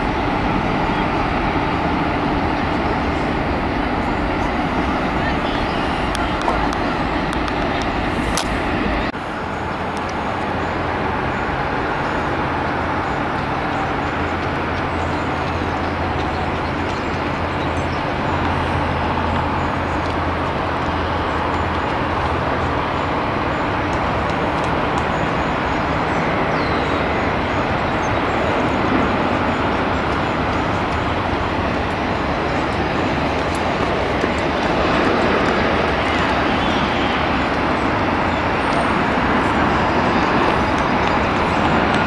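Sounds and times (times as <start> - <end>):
diesel train rumbling: 0.0 - 42.0.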